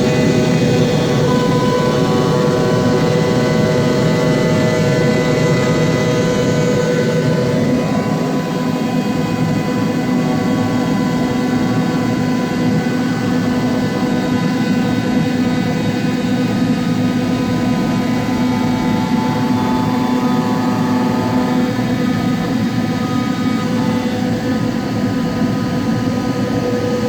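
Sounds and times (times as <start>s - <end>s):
cnc machine cutting with whine: 0.0s - 27.0s.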